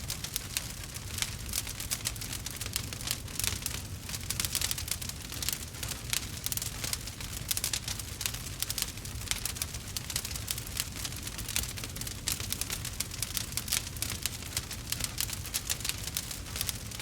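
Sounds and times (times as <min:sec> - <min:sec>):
burning wood crackling: 0:00.0 - 0:17.0.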